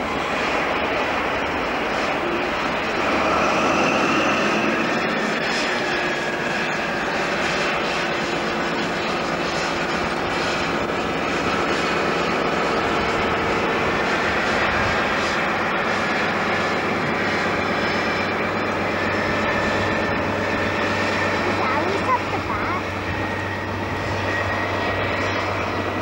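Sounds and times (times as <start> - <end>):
diesel train engine roar: 0.0 - 26.0
train rumbling on rails: 0.0 - 26.0.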